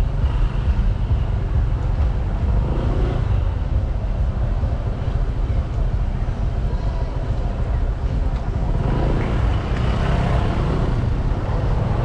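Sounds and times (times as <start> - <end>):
road and wind noise: 0.0 - 12.0
vehicle rumble: 0.0 - 12.0.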